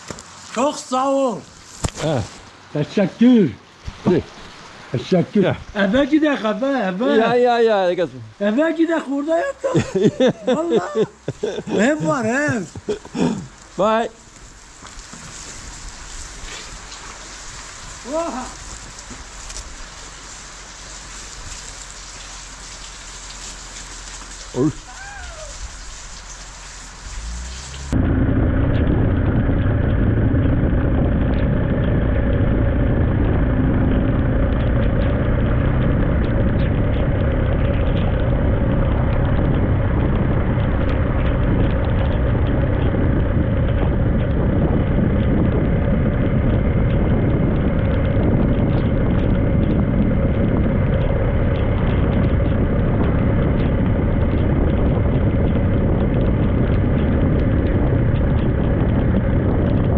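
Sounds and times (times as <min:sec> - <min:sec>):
wind and road noise: 0:00.0 - 0:59.9
vehicle engine running: 0:09.9 - 0:59.9.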